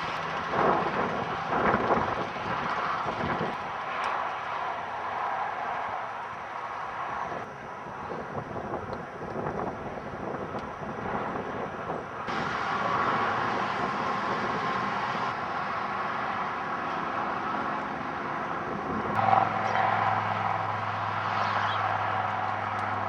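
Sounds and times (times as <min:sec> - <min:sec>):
vehicle road and engine noise: 0:00.0 - 0:23.0.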